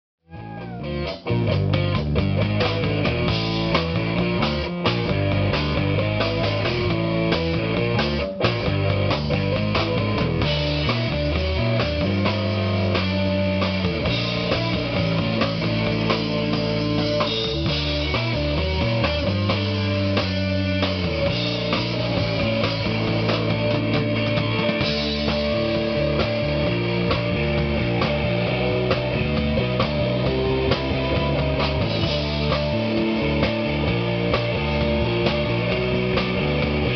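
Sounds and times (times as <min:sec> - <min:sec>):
bass line: 0:00.2 - 0:36.9
rock band playing: 0:00.2 - 0:36.9.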